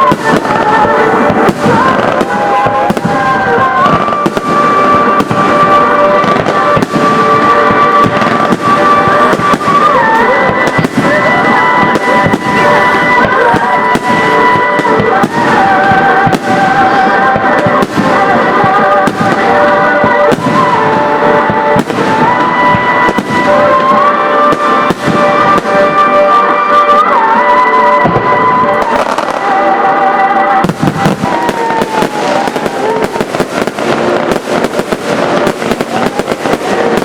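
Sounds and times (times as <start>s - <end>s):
fireworks bursting: 0.0s - 37.0s
music with long held notes: 0.0s - 37.0s.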